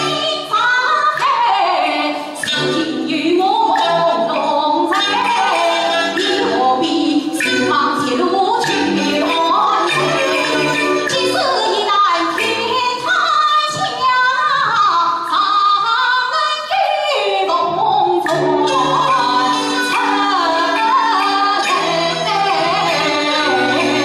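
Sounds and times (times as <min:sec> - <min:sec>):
instrumental accompaniment: 0:00.0 - 0:14.0, 0:17.7 - 0:24.0
woman singing opera: 0:00.0 - 0:24.0.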